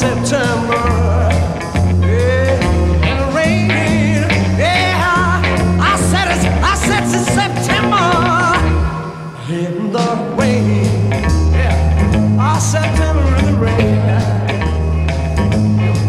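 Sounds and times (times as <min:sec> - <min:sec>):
man singing lead vocal: 0:00.0 - 0:14.8
bass guitar: 0:00.0 - 0:16.0
rock and roll band: 0:00.0 - 0:16.0.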